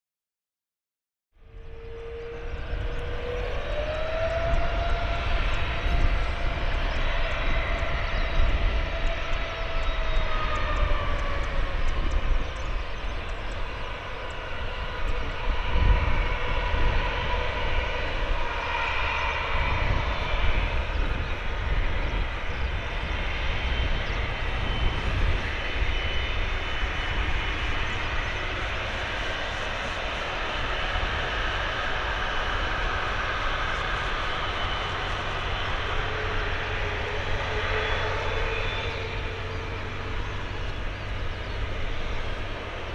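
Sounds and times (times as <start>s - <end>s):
jet engine whine: 1.4s - 42.9s.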